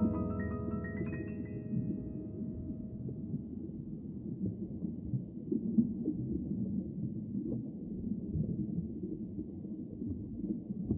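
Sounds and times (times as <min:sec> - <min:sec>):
rumble of moving water underwater: 0:00.0 - 0:10.9.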